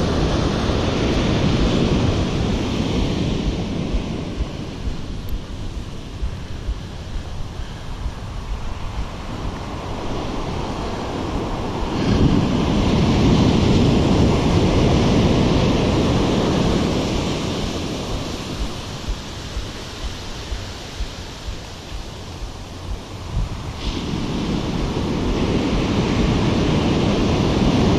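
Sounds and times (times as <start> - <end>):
ocean waves crashing on beach: 0.0 - 27.9
wind rumble on microphone: 0.0 - 27.9.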